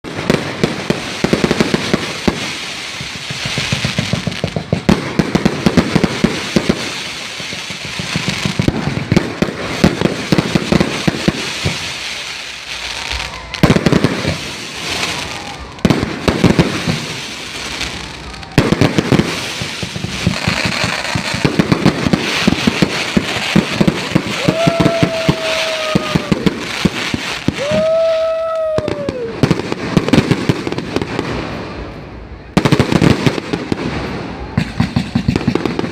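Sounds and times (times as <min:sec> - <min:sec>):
fireworks bangs: 0:00.0 - 0:35.9
fireworks crackling: 0:00.0 - 0:35.9.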